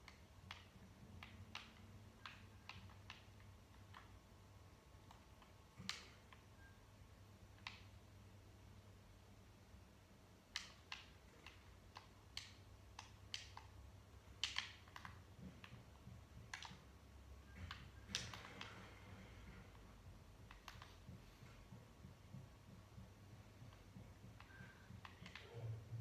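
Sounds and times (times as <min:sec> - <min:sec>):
faint clicks and taps: 0:00.0 - 0:06.7, 0:07.4 - 0:08.2, 0:10.4 - 0:26.0
low steady hum: 0:00.0 - 0:26.0.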